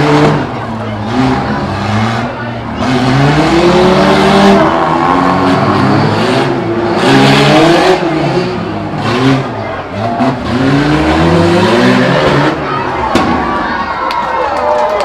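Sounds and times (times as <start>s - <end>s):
car engines revving hard: 0.0s - 13.8s.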